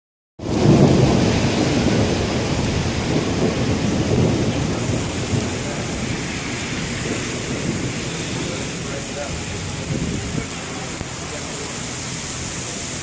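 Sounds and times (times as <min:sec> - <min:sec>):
thunder rumbling: 0:00.4 - 0:13.0
hail hissing: 0:00.6 - 0:13.0.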